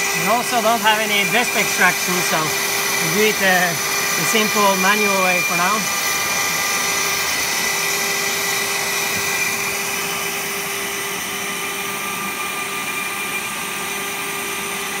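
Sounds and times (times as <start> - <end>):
mill spindle whine: 0.0 - 15.0
vacuum cleaner rushing: 0.0 - 15.0.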